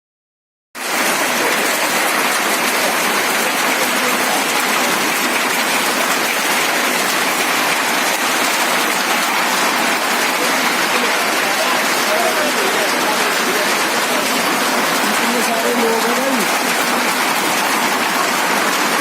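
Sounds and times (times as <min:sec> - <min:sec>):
hail and rain pelting down: 0:00.8 - 0:19.0.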